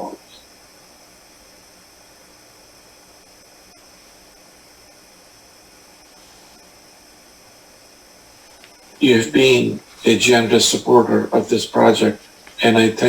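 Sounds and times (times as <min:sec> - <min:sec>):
faint hiss with light hum: 0:00.0 - 0:13.0.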